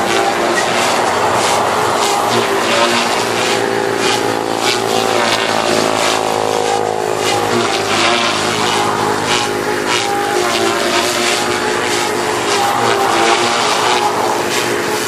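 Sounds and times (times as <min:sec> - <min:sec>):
rc helicopter motor whine: 0:00.0 - 0:15.0
rotor whooshes: 0:00.0 - 0:15.0.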